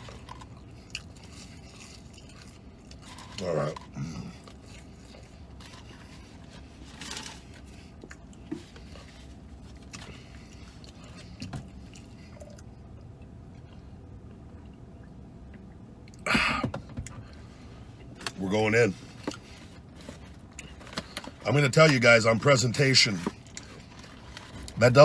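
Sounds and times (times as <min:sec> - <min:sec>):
man chewing food: 0:00.0 - 0:16.4, 0:19.0 - 0:21.4, 0:23.2 - 0:24.8.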